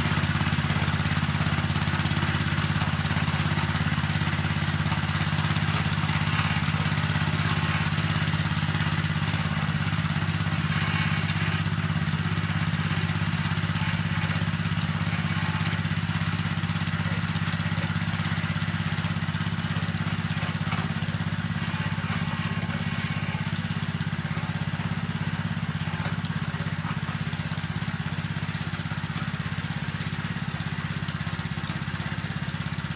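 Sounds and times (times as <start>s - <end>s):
small petrol engine running: 0.0s - 32.9s.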